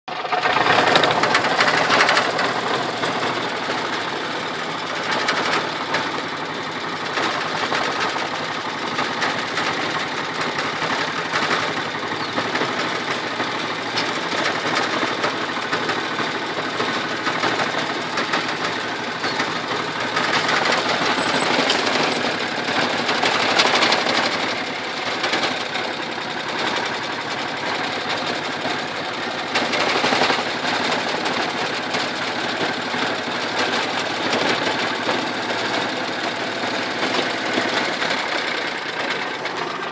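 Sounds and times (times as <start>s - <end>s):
small vehicle rattling: 0.1s - 39.9s.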